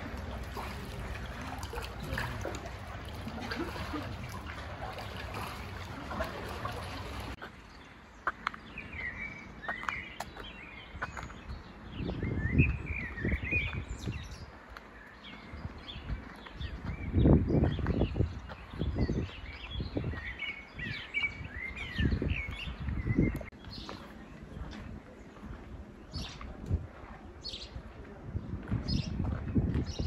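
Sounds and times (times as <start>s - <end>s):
small birds chirping: 0.0s - 26.6s
outdoor background noise: 0.0s - 30.0s.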